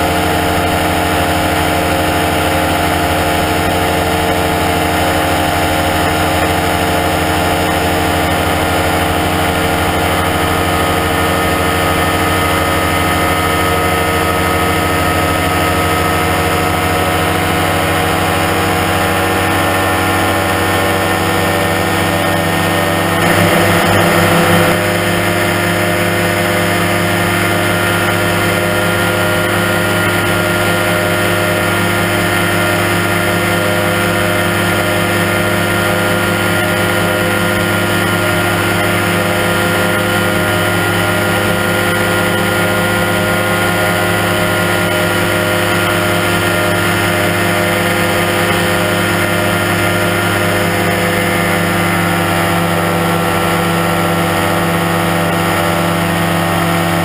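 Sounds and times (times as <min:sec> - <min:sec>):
microlight engine and propeller drone: 0:00.0 - 0:57.0.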